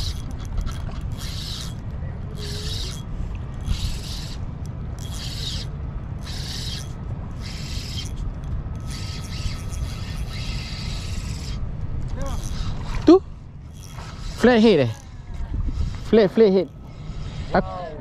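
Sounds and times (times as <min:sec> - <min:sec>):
fishing reel whirring: 0:00.0 - 0:17.7.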